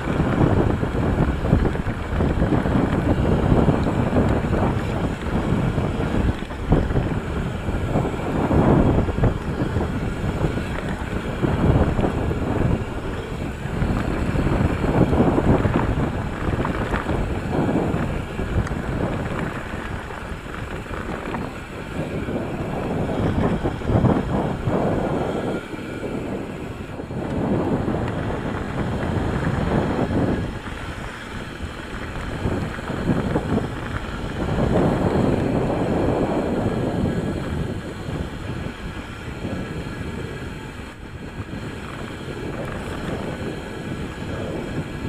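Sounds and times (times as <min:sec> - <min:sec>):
bike tyres rumbling on dirt: 0:00.0 - 0:45.0
wind buffeting microphone: 0:00.0 - 0:45.0.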